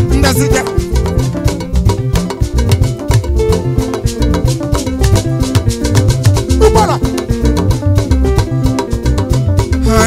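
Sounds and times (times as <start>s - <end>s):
live band dance groove: 0.0s - 10.0s
percussion striking: 0.0s - 10.0s.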